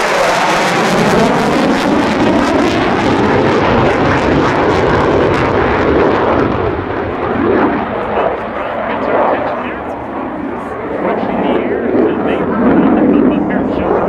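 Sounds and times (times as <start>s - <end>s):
jet engines crackling in afterburner: 0.0s - 14.0s.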